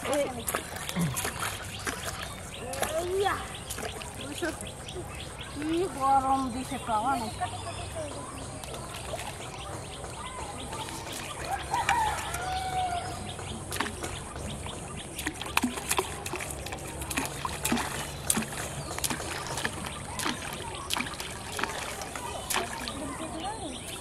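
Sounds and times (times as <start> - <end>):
bird calls: 0.0 - 24.0
pond background noise: 0.0 - 24.0
small splashes: 0.0 - 24.0.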